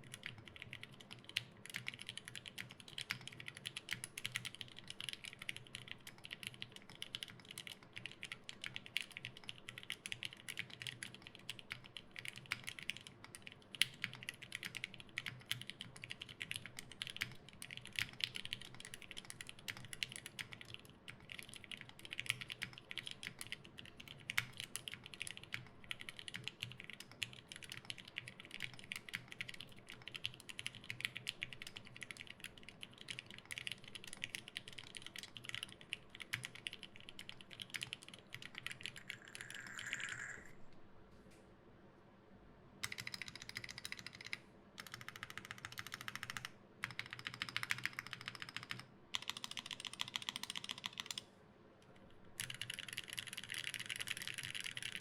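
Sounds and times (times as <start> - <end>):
typing on mechanical keyboard: 0.0 - 40.4, 42.8 - 51.2, 52.4 - 55.0.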